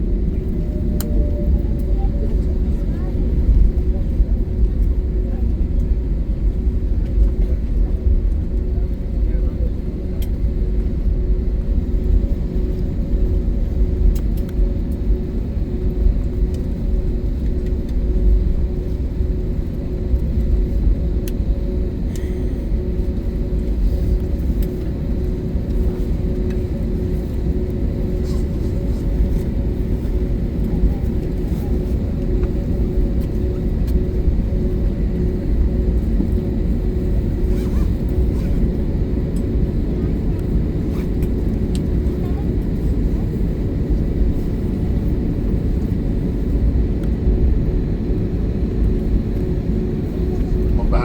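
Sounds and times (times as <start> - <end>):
cabin low rumble: 0.0 - 51.0
two-tone engine hum: 0.0 - 51.0.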